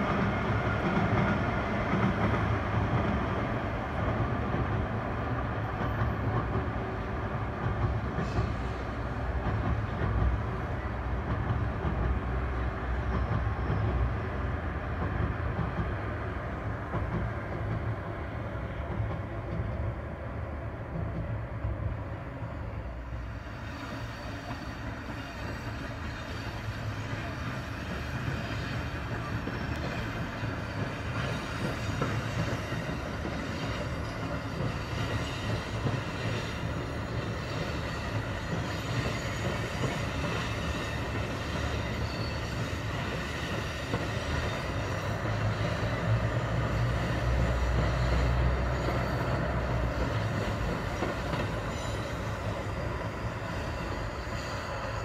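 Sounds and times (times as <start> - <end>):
diesel train engine rumble: 0.0 - 55.0.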